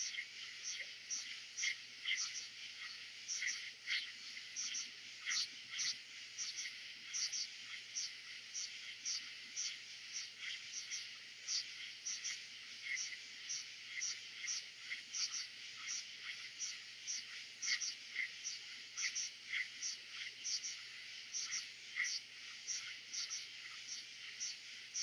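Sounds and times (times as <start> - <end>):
crickets: 0.0 - 25.0
frogs: 0.0 - 25.0
katydids: 0.0 - 25.0.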